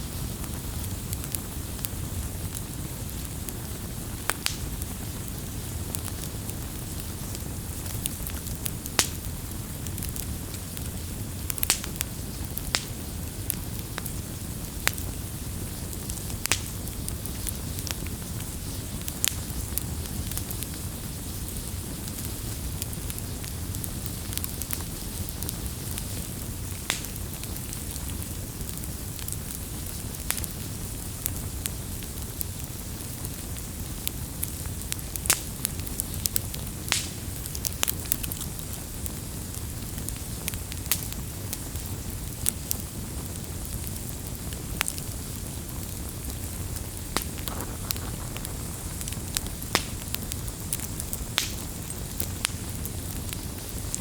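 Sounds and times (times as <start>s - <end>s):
burning wood crackling and popping: 0.0s - 54.0s
flames rumbling and hissing: 0.0s - 54.0s.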